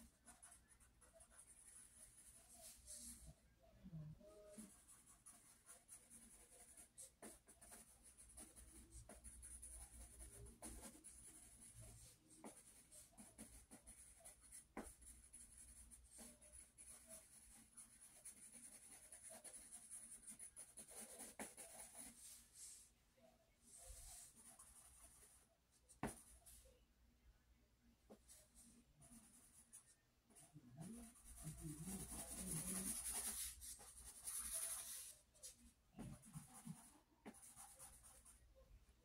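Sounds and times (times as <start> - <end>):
pencil scratching on paper: 0.0 - 3.3, 4.2 - 22.8, 23.7 - 26.6, 28.2 - 38.4.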